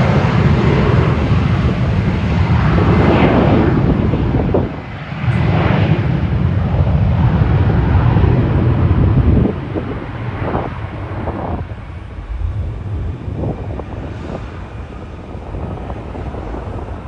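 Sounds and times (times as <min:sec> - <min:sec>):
outdoor rumble: 0:00.0 - 0:17.0
wind buffeting microphone: 0:00.0 - 0:17.0.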